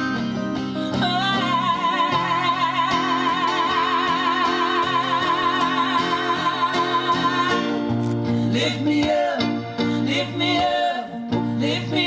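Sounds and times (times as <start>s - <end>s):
acoustic band accompaniment: 0.0s - 12.0s.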